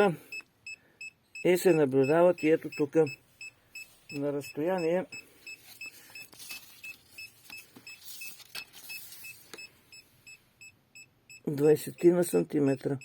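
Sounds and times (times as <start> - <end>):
meter alarm rapid high beeps: 0.0 - 13.0.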